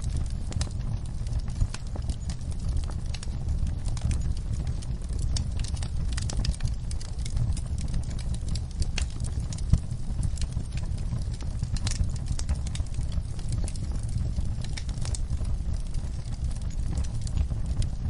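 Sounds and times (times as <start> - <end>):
low rumble of burning: 0.0 - 18.0
wood fire crackling: 0.0 - 18.0.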